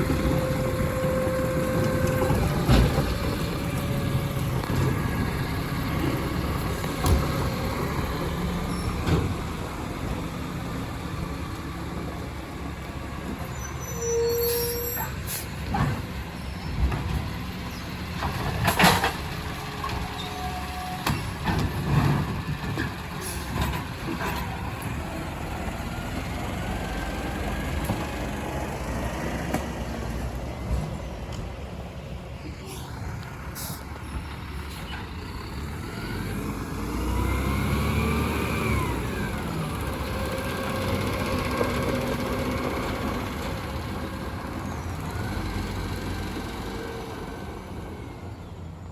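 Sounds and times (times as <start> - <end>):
garbage truck diesel engine: 0.0 - 48.9.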